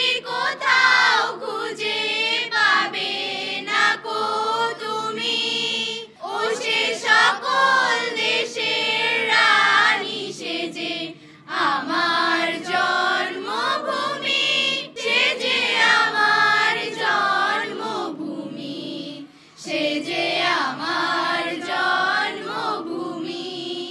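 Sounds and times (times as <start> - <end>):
group singing unaccompanied: 0.0 - 23.9.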